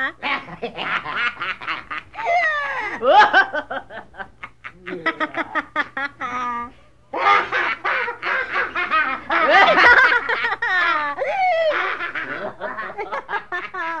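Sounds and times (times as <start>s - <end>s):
hearty human laughter: 0.0s - 14.0s.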